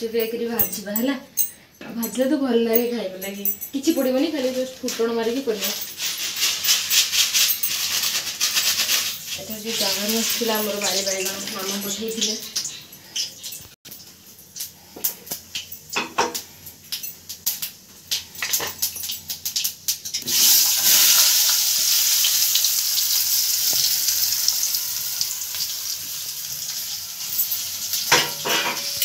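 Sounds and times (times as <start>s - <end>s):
vegetables sizzling in hot oil: 4.2s - 29.0s.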